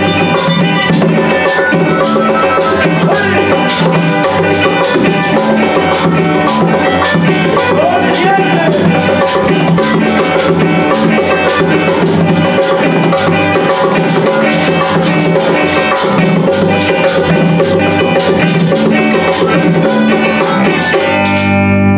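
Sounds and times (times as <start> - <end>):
steady beat: 0.0 - 21.6
electric bass: 0.0 - 21.9
harmonica melody: 0.0 - 21.9.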